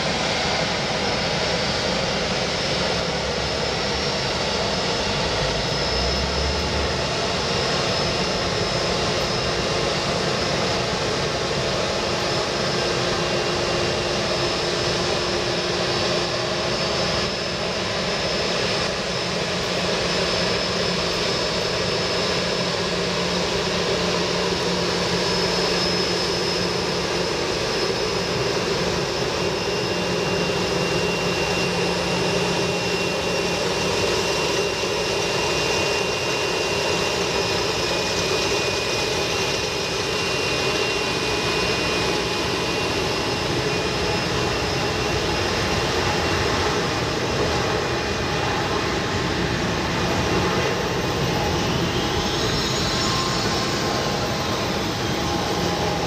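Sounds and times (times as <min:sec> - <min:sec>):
high jet engine whine: 0:00.0 - 0:56.0
jet engines rushing: 0:00.0 - 0:56.0.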